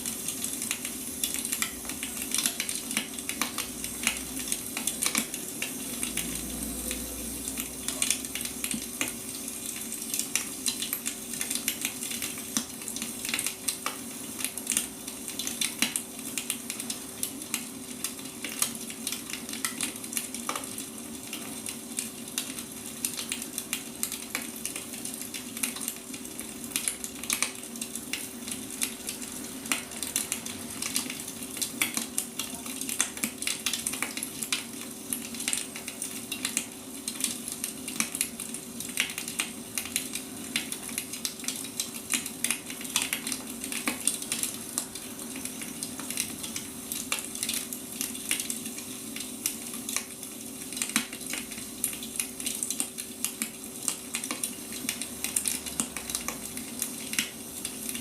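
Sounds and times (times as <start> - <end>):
firewood crackling and popping: 0.0 - 6.3, 7.5 - 58.0.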